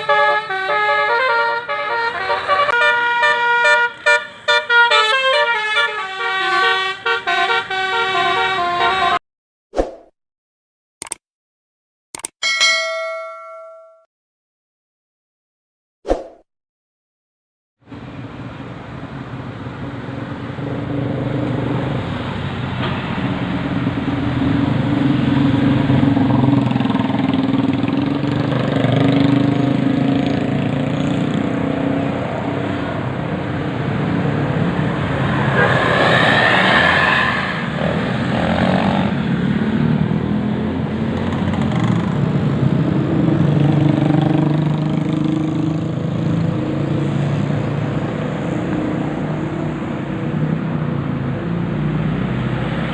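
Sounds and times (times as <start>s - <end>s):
road traffic passing: 0.0s - 9.2s, 17.8s - 52.9s.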